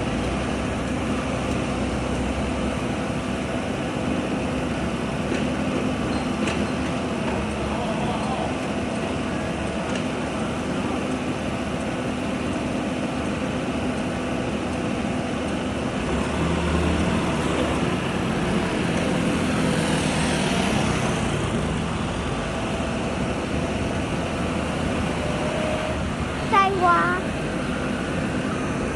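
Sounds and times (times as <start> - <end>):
excavator engine running: 0.0 - 28.9.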